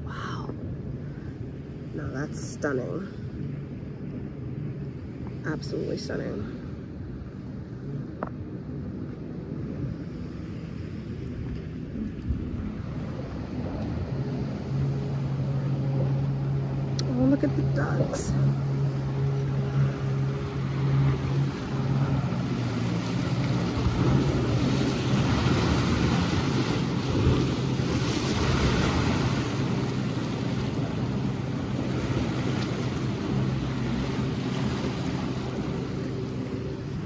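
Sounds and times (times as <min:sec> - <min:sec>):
steady low hum: 0:00.0 - 0:37.0
wind buffeting microphone: 0:00.0 - 0:37.0.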